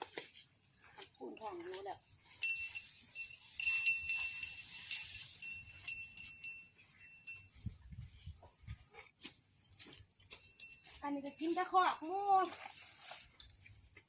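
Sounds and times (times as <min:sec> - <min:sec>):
small metal bell jingling: 0:00.7 - 0:08.4, 0:09.6 - 0:13.7.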